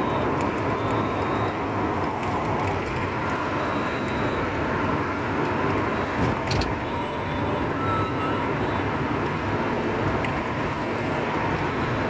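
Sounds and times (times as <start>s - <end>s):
car road noise: 0.0s - 12.0s.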